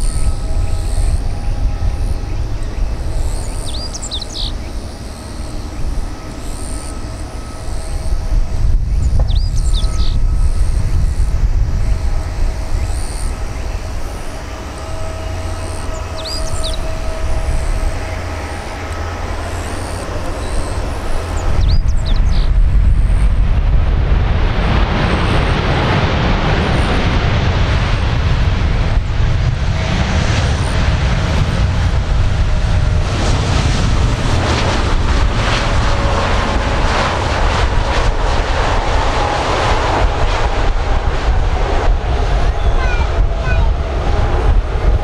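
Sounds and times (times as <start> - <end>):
jet engine hum: 0.0 - 45.0
jet engine reverse thrust roar: 0.0 - 45.0.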